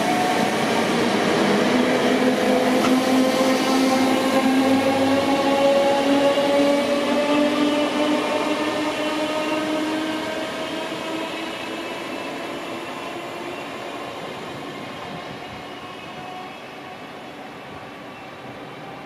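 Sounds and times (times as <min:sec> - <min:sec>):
electric train whine: 0:00.0 - 0:19.0.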